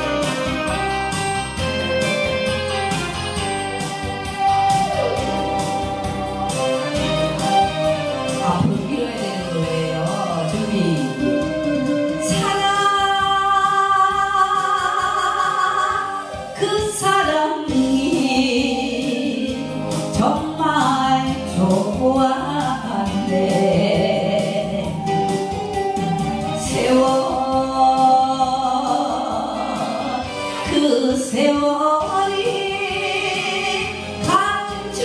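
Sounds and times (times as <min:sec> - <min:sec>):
karaoke backing track: 0:00.0 - 0:35.0
woman singing into microphone: 0:04.5 - 0:35.0.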